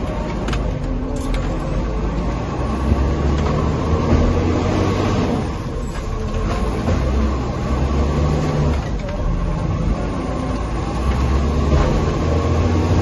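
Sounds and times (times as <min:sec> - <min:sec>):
diesel engine low rumble: 0:00.0 - 0:13.0.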